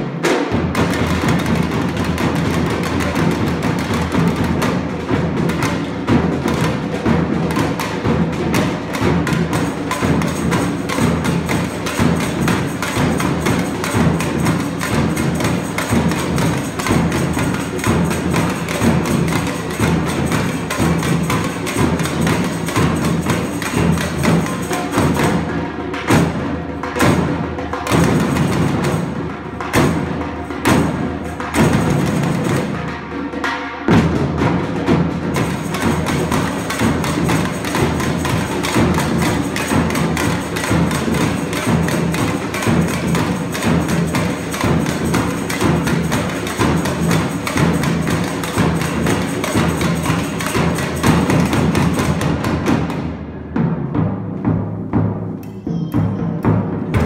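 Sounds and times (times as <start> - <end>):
samba percussion ensemble: 0.0 - 57.0.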